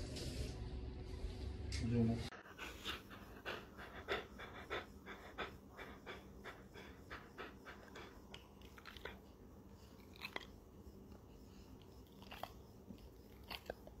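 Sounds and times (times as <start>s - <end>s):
dog panting: 2.3s - 14.0s.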